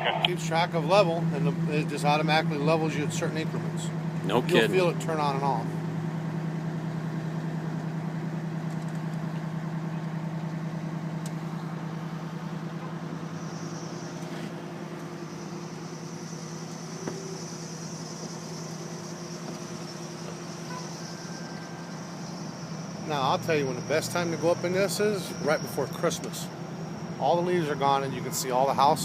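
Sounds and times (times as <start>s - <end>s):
engine and hydraulics humming: 0.0s - 29.0s.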